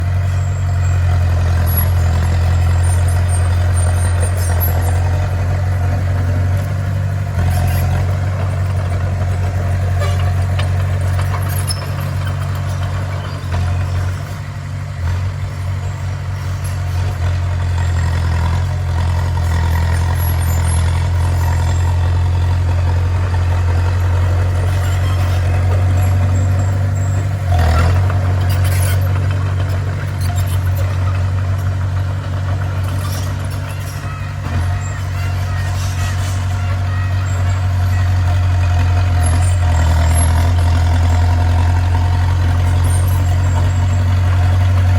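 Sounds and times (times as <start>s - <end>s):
bulldozer engine droning: 0.0s - 44.9s.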